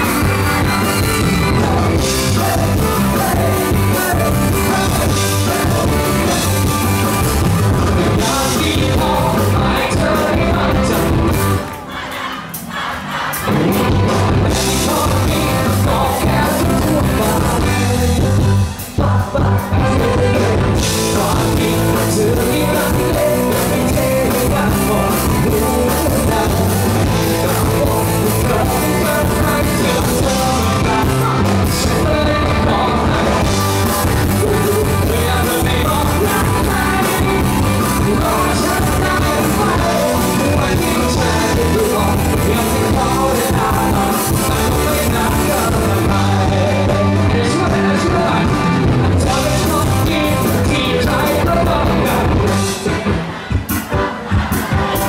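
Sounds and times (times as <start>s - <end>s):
live rock band with singer: 0.0s - 55.0s.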